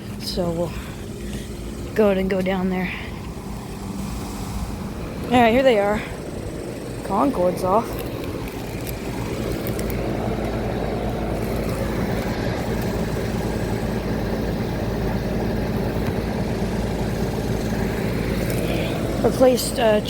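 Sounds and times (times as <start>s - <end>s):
air-conditioner units humming: 0.0s - 20.0s.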